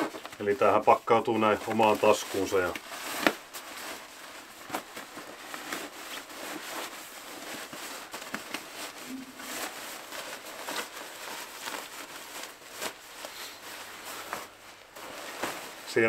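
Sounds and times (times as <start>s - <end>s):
nylon jacket rustling: 0.0s - 16.0s.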